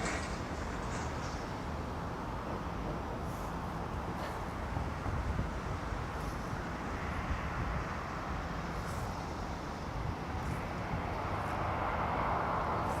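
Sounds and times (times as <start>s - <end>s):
distant jet engines rumbling: 0.0s - 13.0s.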